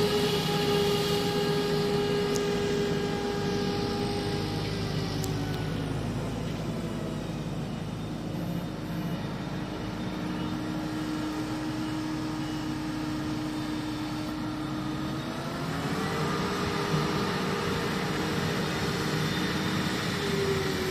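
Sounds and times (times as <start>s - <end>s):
forage harvester drone with whine: 0.0s - 20.9s
tractor running: 0.0s - 20.9s.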